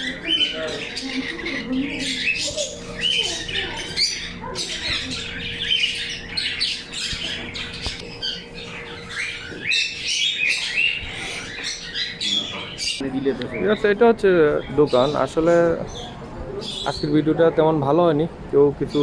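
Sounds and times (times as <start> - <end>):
caged birds chirping and squawking: 0.0 - 19.0.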